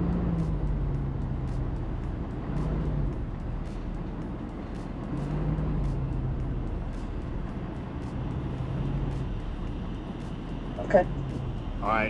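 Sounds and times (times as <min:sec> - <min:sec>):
truck engine running at low revs: 0:00.0 - 0:12.0.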